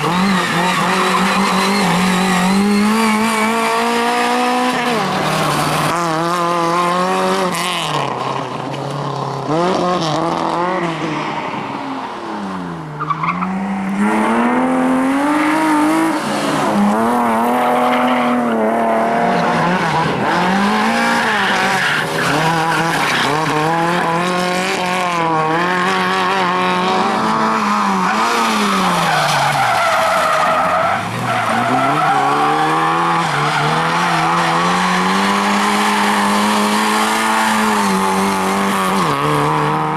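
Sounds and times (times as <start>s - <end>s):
tyres skidding and squealing: 0.0s - 9.5s, 10.8s - 39.9s
rally car engine revving: 0.0s - 11.4s, 12.0s - 39.9s.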